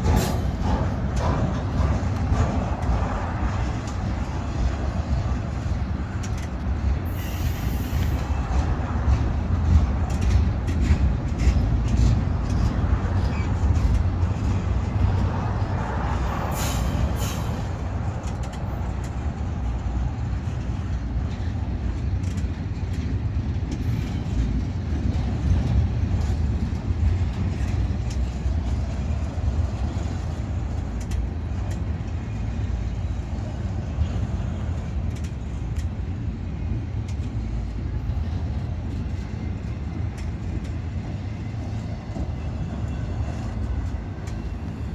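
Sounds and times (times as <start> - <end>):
train cars clicking and clanking: 0.0 - 44.9
train wheels rumbling on rails: 0.0 - 44.9.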